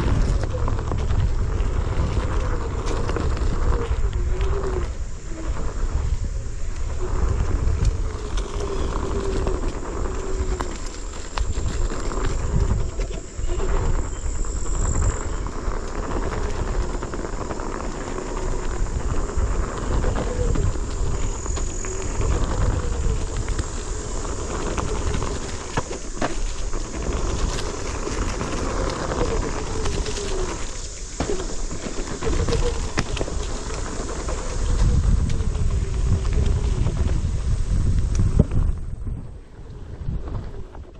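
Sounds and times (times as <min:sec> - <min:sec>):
electric motor whine: 0:00.0 - 0:38.5
tyre rolling on dirt: 0:00.0 - 0:40.9
wind rumble on microphone: 0:00.0 - 0:40.9.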